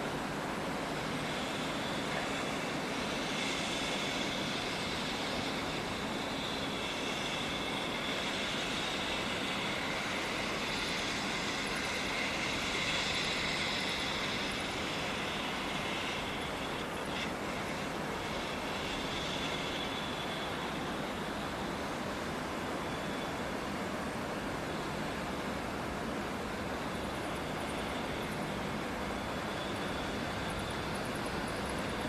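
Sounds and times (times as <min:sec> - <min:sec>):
electric locomotive whine: 0:00.0 - 0:32.0
freight train running noise: 0:00.0 - 0:32.0.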